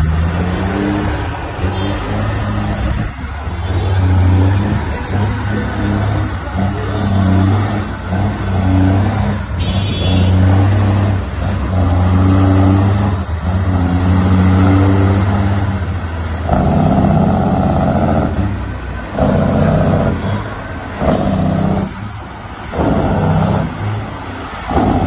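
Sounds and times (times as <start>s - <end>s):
diesel truck engine accelerating: 0.0s - 25.0s.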